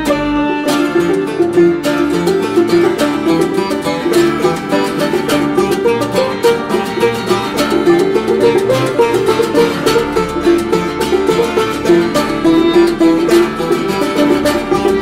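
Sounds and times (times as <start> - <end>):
plucked string instrument picking: 0.0 - 15.0.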